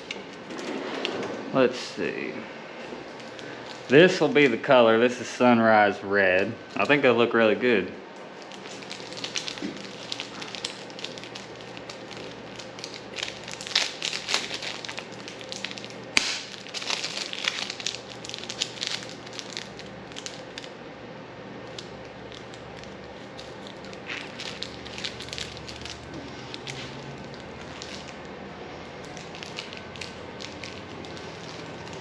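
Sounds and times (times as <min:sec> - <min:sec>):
crackling handling noises: 0:00.0 - 0:07.2, 0:07.8 - 0:20.9, 0:21.5 - 0:32.0.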